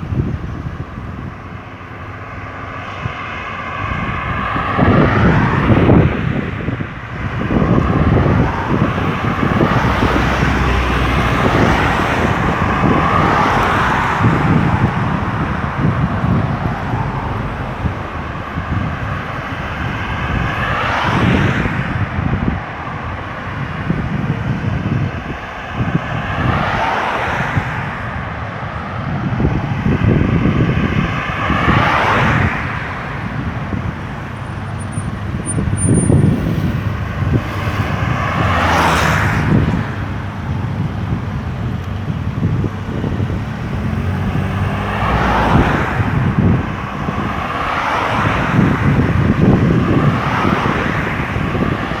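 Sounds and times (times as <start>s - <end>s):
rumble of engines and tyres: 0.0s - 52.0s
vehicles passing by: 0.0s - 52.0s.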